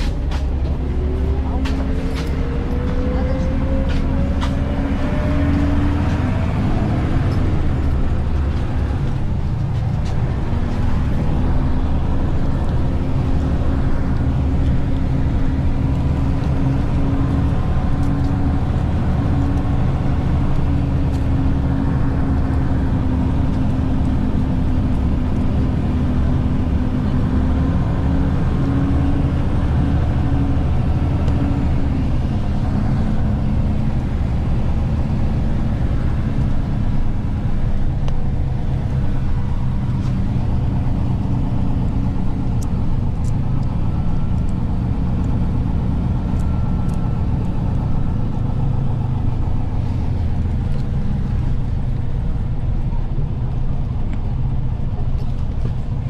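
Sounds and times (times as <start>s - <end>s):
bus engine and road rumble: 0.0s - 56.0s
bus whine: 0.0s - 56.0s.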